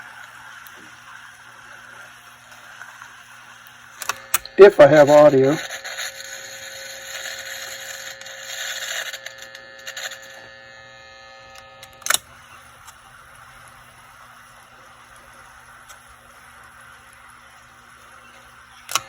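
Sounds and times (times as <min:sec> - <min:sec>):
tape player hum and hiss: 0:00.0 - 0:19.0.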